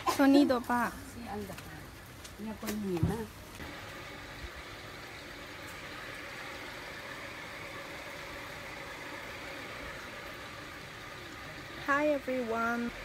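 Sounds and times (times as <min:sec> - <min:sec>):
constant hiss: 0:00.0 - 0:13.0
steady mechanical hum: 0:00.0 - 0:13.0.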